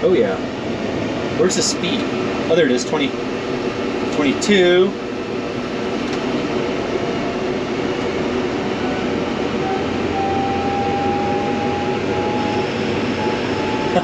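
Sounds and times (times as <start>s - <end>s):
thin rising whine: 0.8s - 14.0s.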